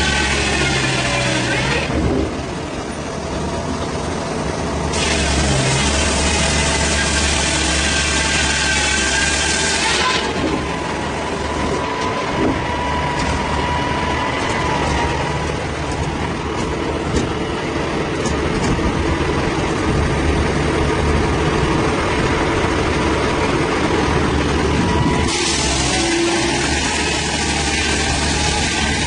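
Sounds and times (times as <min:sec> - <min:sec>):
heavy engine running: 0:00.0 - 0:29.0.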